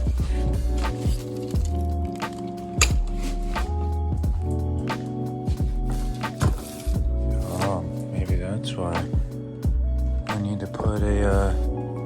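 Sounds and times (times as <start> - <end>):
synth chords: 0.0 - 10.3
deep bass line: 0.0 - 12.0.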